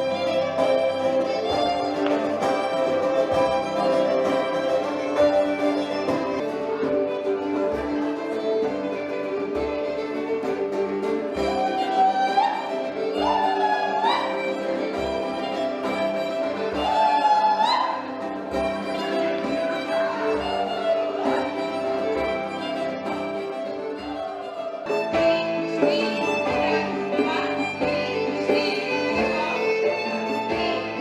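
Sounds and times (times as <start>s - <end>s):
fiddle playing dance tune: 0.0s - 31.0s.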